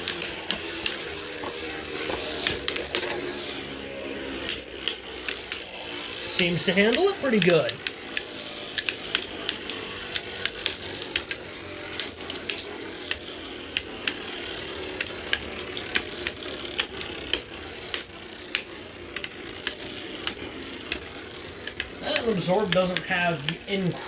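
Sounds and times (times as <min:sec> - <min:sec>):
spinning tops clacking together: 0:00.0 - 0:24.0
spinning tops whirring: 0:00.0 - 0:24.0.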